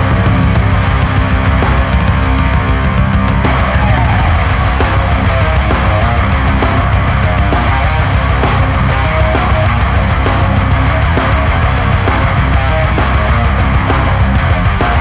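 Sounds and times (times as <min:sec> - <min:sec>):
drums: 0:00.0 - 0:15.0
heavy metal song: 0:00.0 - 0:15.0
loud guitars: 0:00.0 - 0:15.0.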